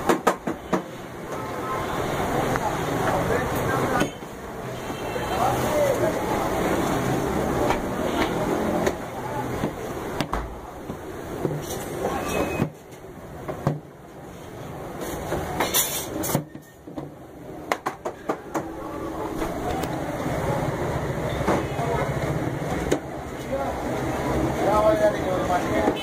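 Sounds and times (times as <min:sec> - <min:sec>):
voices: 0:00.0 - 0:13.7, 0:17.4 - 0:26.0
traffic noise: 0:00.0 - 0:26.0.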